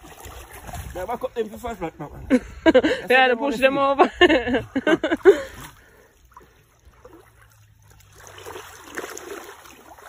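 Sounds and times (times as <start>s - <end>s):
wading through shallow water: 0.0s - 10.0s.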